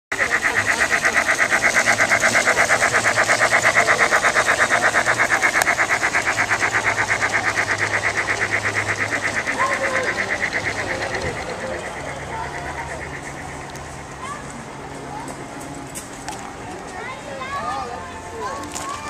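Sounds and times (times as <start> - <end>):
model steam locomotive chuffing: 0.1 - 19.0.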